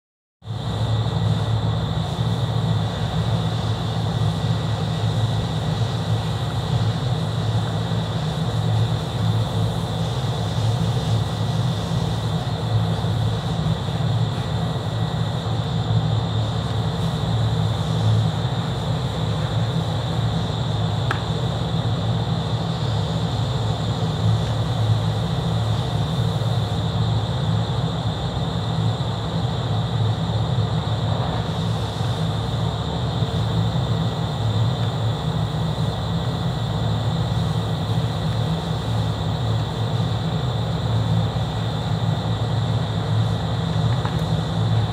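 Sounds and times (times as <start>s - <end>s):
low mechanical drone: 0.5s - 44.9s.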